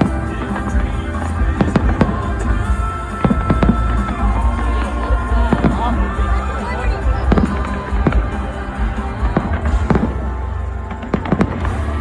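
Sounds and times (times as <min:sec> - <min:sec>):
loud music playing: 0:00.0 - 0:12.0.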